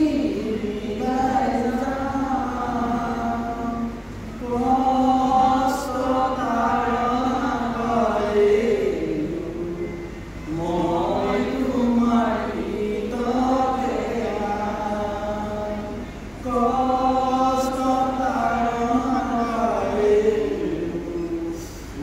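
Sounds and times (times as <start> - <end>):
voices singing slow chant: 0.0 - 22.0.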